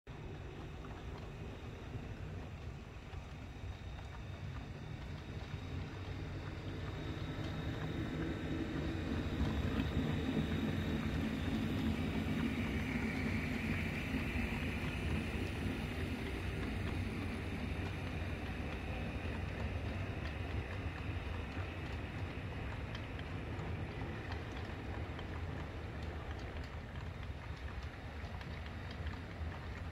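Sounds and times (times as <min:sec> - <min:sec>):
model train rolling on track: 0:00.1 - 0:29.9.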